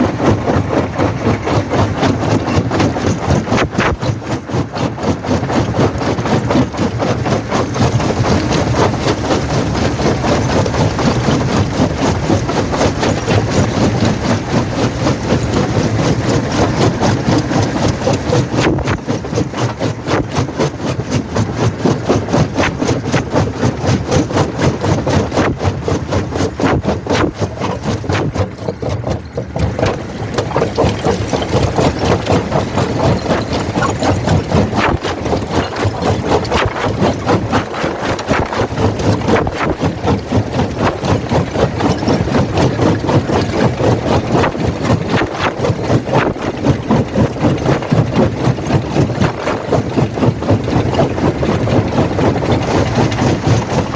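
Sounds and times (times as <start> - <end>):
jaw crusher pulsing rumble: 0.0 - 53.9.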